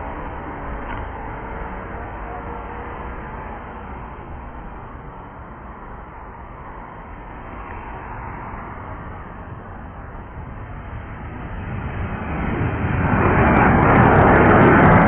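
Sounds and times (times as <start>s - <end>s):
jet engines rumbling at takeoff: 0.0s - 15.0s.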